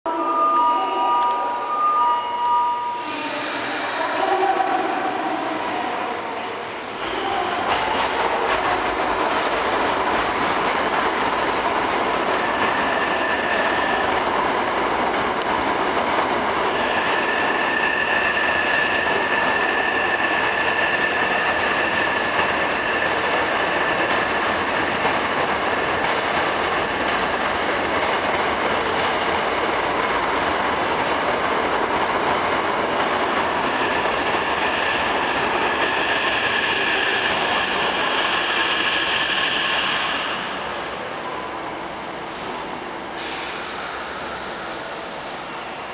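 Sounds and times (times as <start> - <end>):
train wheels rumbling on rails: 3.0 - 45.9.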